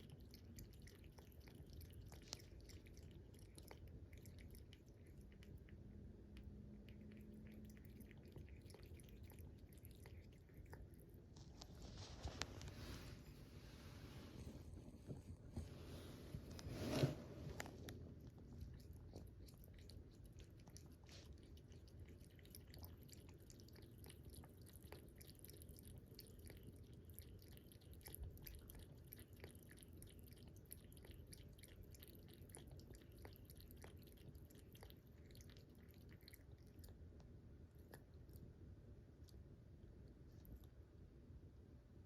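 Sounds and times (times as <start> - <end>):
cat lapping water: 0.0 - 13.6, 14.3 - 40.8.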